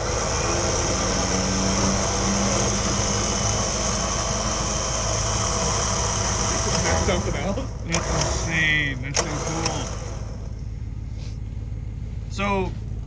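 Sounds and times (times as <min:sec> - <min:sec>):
machine running with hiss and hum: 0:00.0 - 0:12.3.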